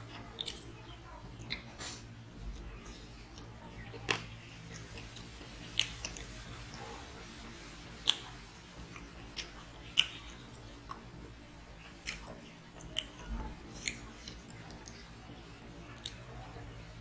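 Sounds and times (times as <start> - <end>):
close chewing: 0.0 - 7.2, 7.8 - 11.2, 11.8 - 16.6.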